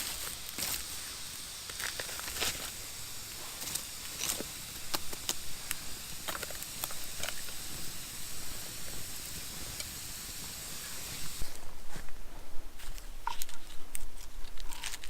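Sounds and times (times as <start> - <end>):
fire crackles and pops: 0.0 - 12.2
campfire hissing: 0.0 - 12.9.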